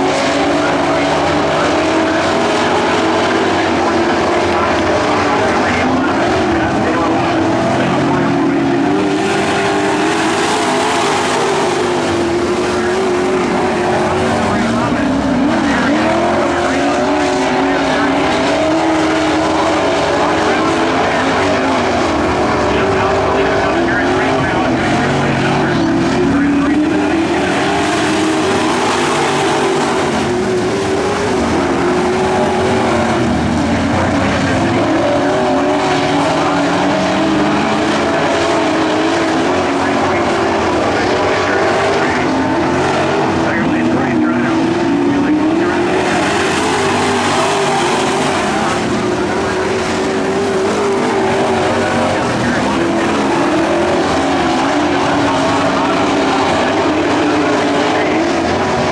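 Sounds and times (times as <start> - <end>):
truck engines racing: 0.0 - 58.9.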